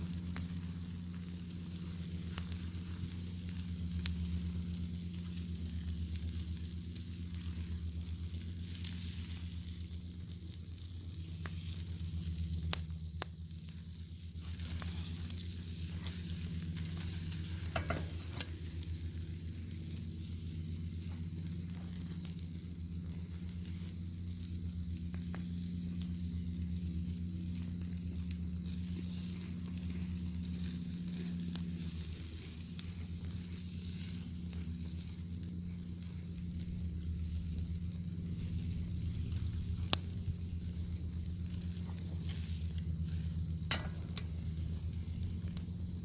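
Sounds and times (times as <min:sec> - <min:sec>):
bacon sizzling in a pan: 0:00.0 - 0:46.0
steady low hum: 0:00.0 - 0:46.0.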